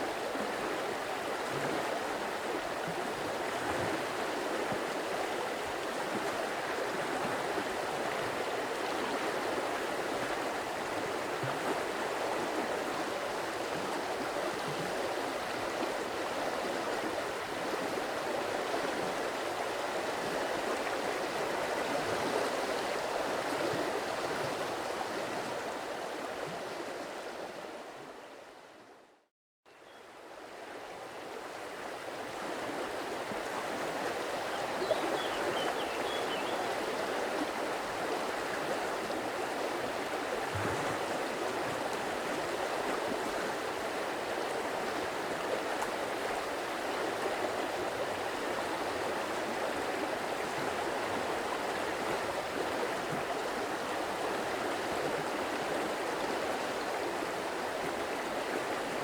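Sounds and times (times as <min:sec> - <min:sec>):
stream water flowing: 0:00.0 - 0:28.9, 0:30.0 - 0:59.0.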